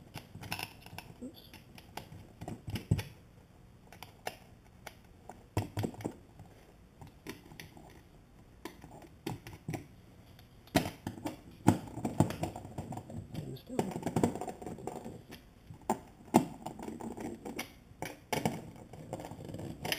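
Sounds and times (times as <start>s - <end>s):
hands clicking and tapping parts: 0.0s - 3.2s, 3.8s - 19.9s.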